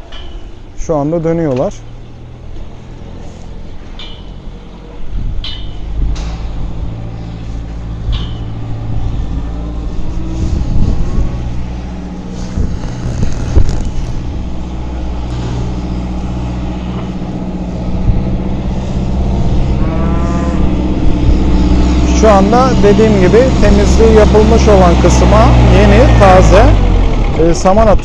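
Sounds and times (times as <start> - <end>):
diesel tractor engine: 0.0 - 28.0.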